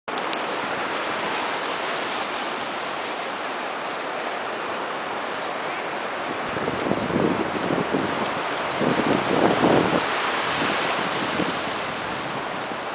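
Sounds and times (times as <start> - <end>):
ocean surf washing over sand: 0.1 - 12.9.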